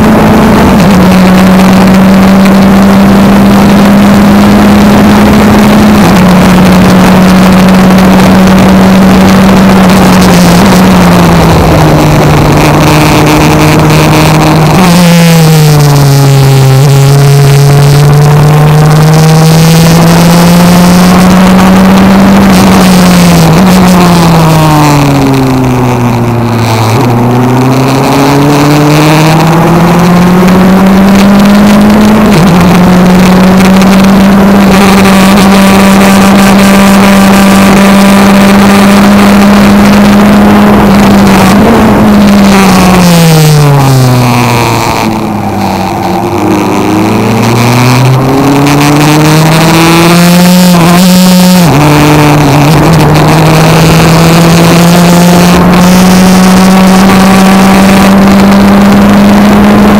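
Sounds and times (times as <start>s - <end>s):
racing car engine: 0.0s - 59.9s.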